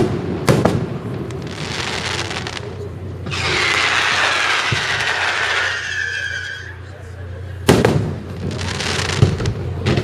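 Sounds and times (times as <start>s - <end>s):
firework bang and rumble: 0.0s - 6.3s, 7.6s - 10.0s.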